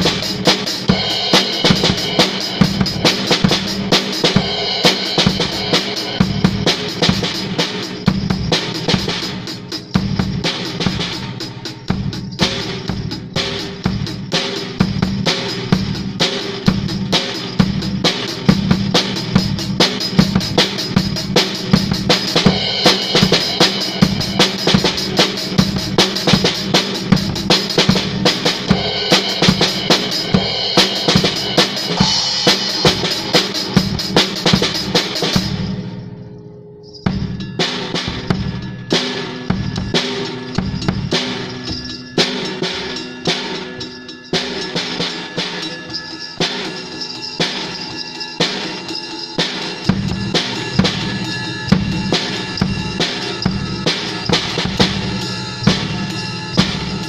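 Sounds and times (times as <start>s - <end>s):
ankle bells jingling: 0.0s - 57.0s
drum kit playing: 0.0s - 57.0s.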